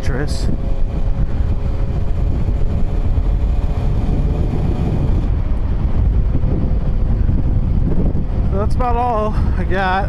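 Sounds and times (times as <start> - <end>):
motorcycle engine drone: 0.0 - 10.0
wind rumble on microphone: 0.0 - 10.0.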